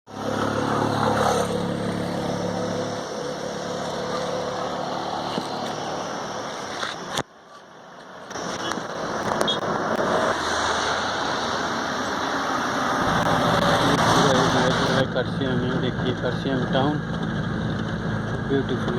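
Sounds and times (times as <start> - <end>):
vehicle engine running: 0.1 - 7.2, 8.3 - 18.9
road traffic noise: 0.1 - 18.9.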